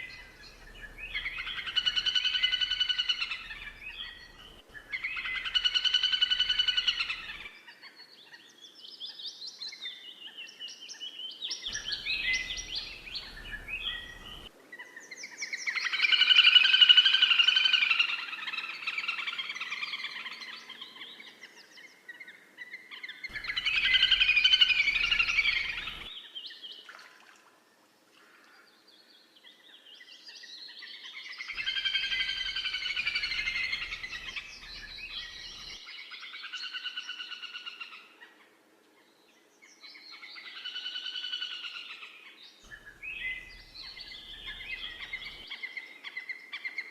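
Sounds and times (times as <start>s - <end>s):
birds chirping and trilling: 0.0s - 26.6s, 28.3s - 46.9s.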